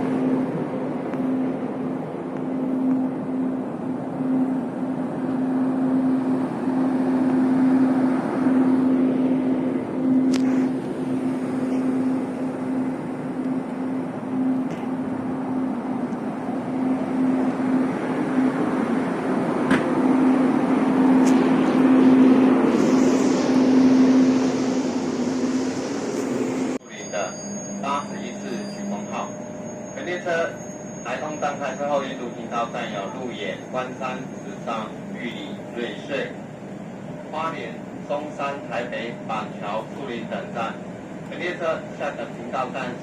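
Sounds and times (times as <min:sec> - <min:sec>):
train low drone hum: 0:00.0 - 0:43.0.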